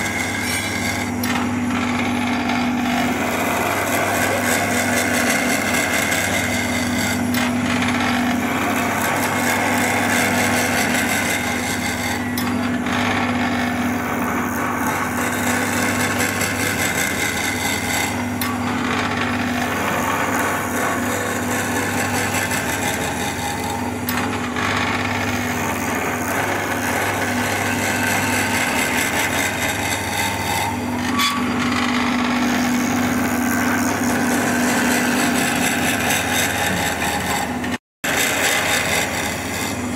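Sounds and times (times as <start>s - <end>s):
lathe motor hum: 0.0s - 39.9s
tool scraping spinning wood: 0.0s - 39.9s.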